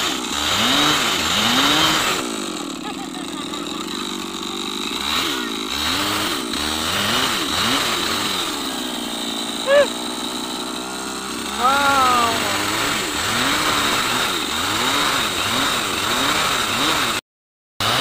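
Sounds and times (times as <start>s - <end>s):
chainsaw cutting wood: 0.0s - 17.2s, 17.8s - 18.0s.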